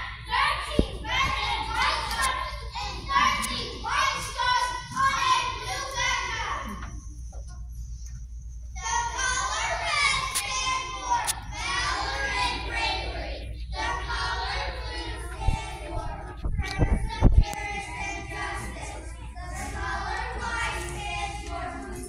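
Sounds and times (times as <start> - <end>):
children singing together: 0.0 - 6.9, 8.8 - 22.0.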